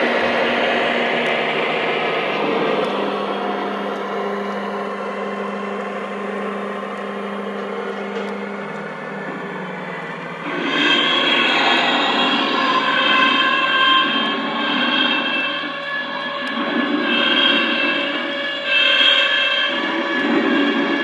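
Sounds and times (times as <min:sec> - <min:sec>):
electronic train engine drone: 0:00.0 - 0:21.0.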